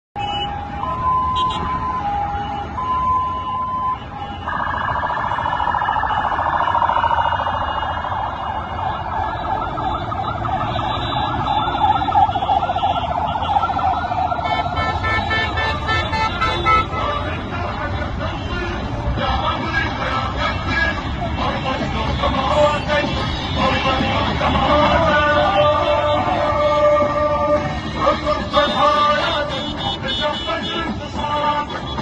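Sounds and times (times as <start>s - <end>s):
low rumble of traffic: 0.2s - 32.0s
vehicle siren wailing: 0.2s - 32.0s.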